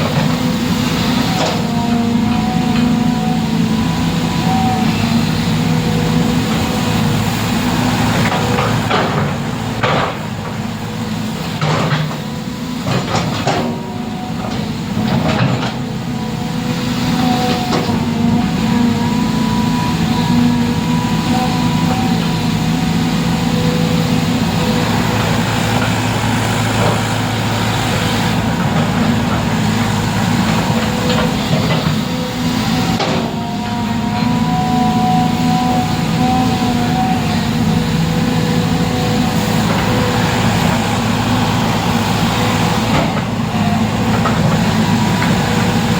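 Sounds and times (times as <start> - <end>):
engine humming steadily: 0.0 - 45.9.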